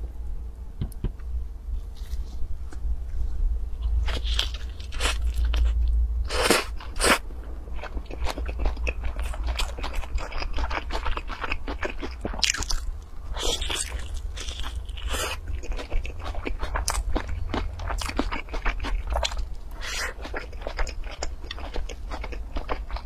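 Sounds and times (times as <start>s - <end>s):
biting and chewing crackly food: 3.8s - 23.0s.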